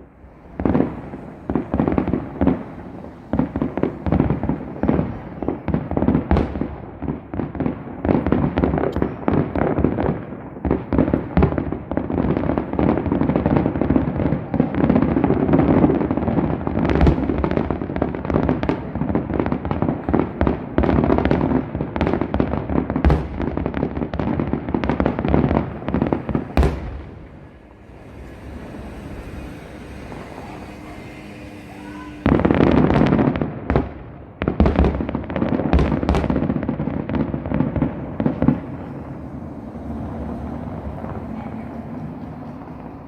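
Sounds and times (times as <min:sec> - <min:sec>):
fireworks bursting: 0:00.0 - 0:43.0
fireworks crackling: 0:00.0 - 0:43.0.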